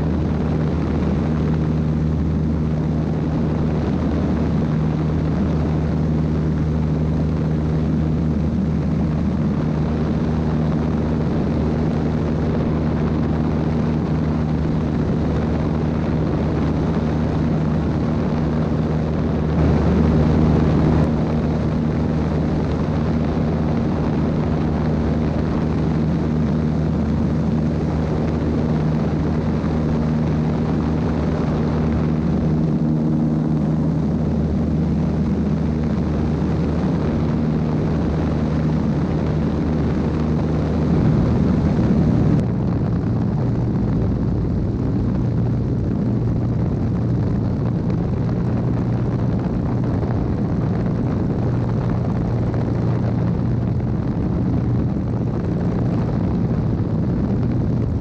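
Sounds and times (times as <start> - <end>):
propeller plane engine droning: 0.0 - 58.0
rushing air: 0.0 - 58.0.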